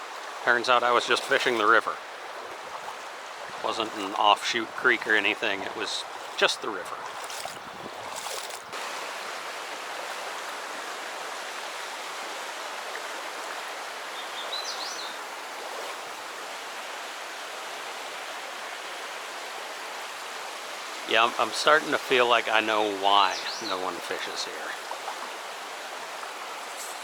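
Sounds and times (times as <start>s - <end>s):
river water flowing: 0.0s - 27.0s.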